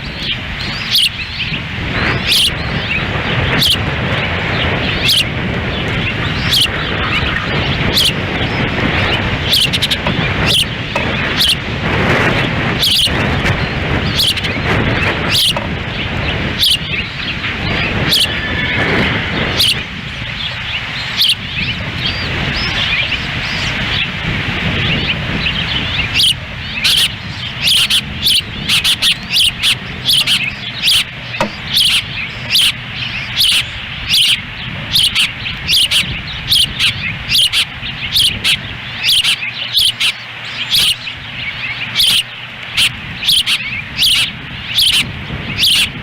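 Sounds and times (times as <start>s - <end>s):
osprey chirps: 0.0s - 24.2s, 24.8s - 46.0s
wind rumbling on microphone: 0.0s - 46.0s.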